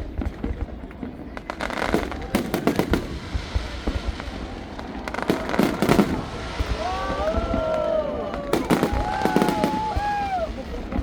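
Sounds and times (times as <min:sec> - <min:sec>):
fireworks bangs and crackling: 0:00.0 - 0:11.0
fireworks whistles: 0:01.9 - 0:11.0.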